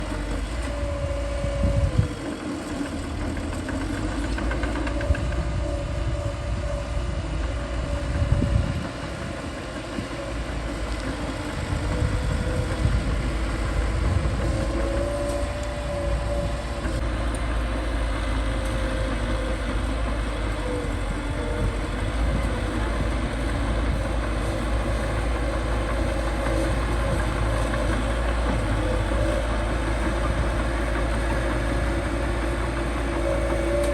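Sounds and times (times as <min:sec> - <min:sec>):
bulldozer diesel engine rumbling: 0:00.0 - 0:33.9.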